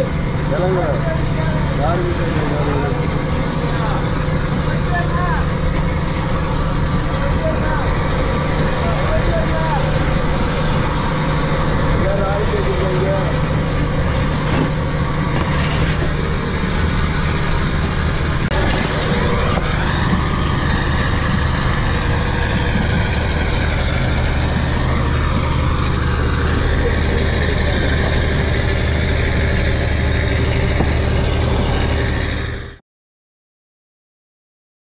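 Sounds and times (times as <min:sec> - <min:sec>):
boat diesel engine humming: 0:00.0 - 0:32.8.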